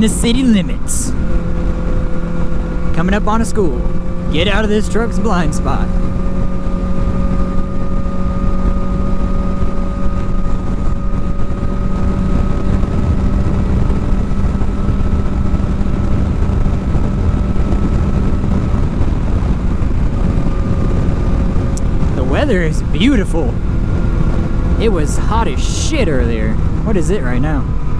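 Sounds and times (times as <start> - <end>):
motorcycle engine cruising: 0.0 - 27.9
wind rushing over microphone: 0.0 - 27.9.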